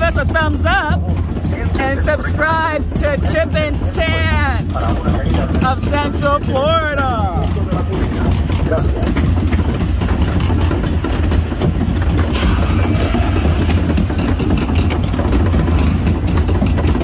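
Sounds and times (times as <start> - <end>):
machinery rattling clatter: 0.0 - 17.0.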